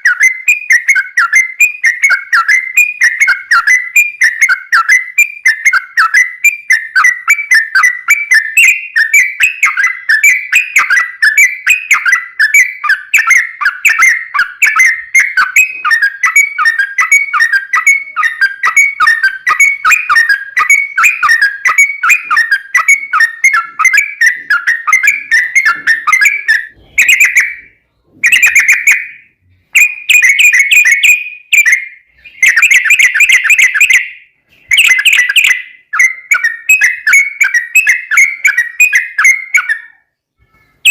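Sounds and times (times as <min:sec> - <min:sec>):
bulbul singing bubbly whistles: 0:00.0 - 0:40.0.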